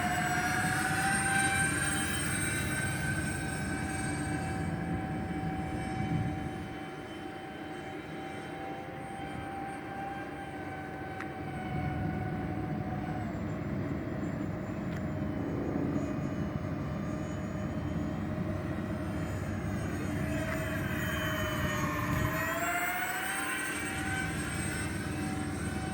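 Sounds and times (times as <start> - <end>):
electric ducted-fan jets whining: 0.0 - 25.9.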